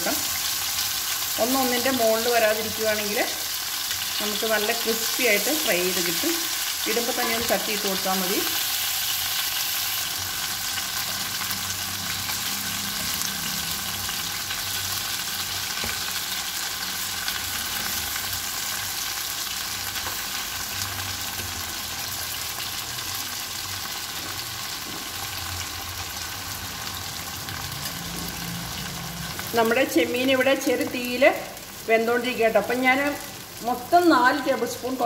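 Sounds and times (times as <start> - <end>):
prawns sizzling in a pan: 0.0 - 35.0.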